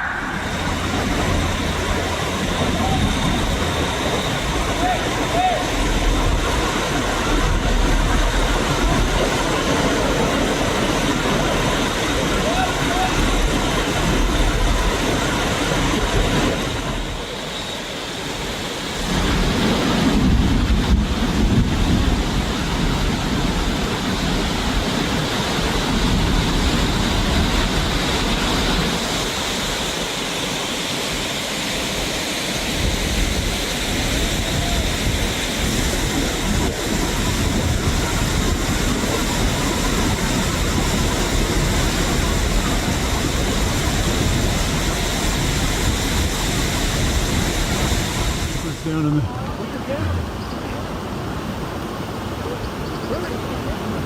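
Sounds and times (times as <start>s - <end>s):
fast-flowing water rushing: 0.0s - 54.0s.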